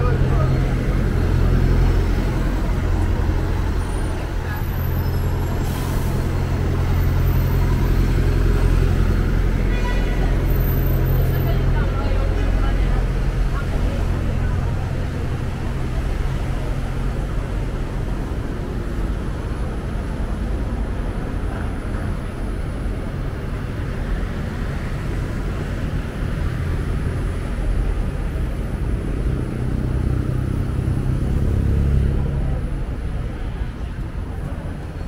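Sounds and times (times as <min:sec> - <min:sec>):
busy street traffic: 0:00.0 - 0:35.0.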